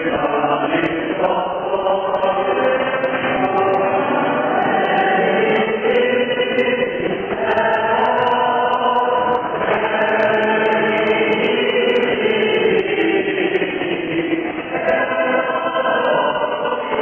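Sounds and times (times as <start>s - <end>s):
church choir chanting: 0.0s - 17.0s.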